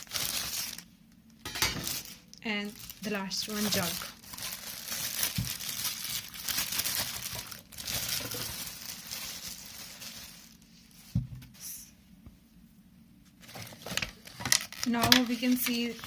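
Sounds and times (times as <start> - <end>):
packaging crinkling: 0.0 - 11.2, 13.4 - 16.0.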